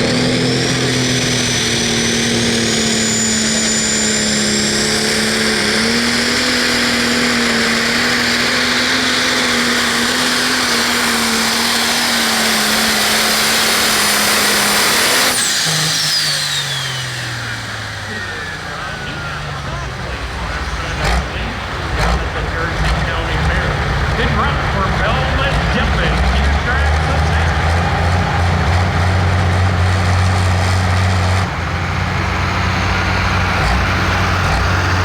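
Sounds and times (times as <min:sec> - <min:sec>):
diesel tractor engine roaring: 0:00.0 - 0:35.0.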